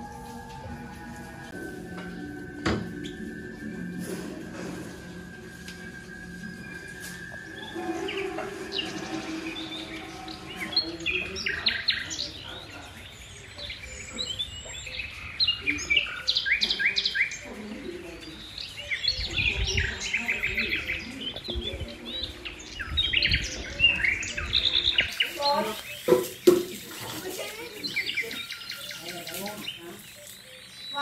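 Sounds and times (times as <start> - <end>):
birds chirping and trilling: 0.0 - 31.0.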